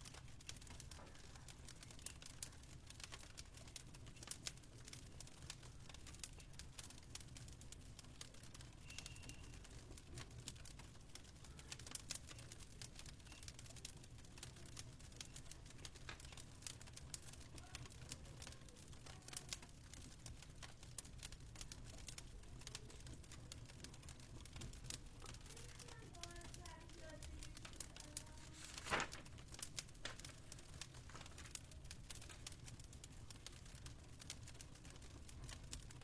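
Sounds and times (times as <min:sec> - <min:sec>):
fireplace crackling: 0:00.0 - 0:36.0.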